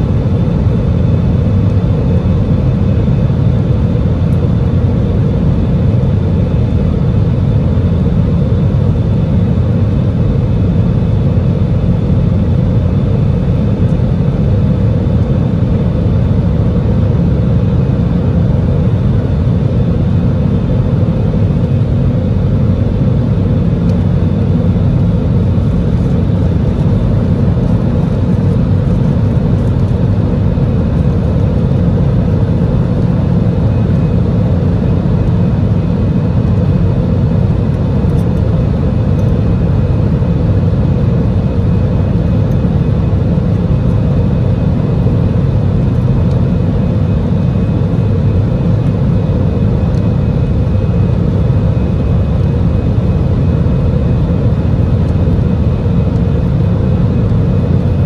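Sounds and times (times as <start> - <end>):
airplane engine and airflow rumble: 0.0 - 58.0
faint steady whine: 0.0 - 58.0.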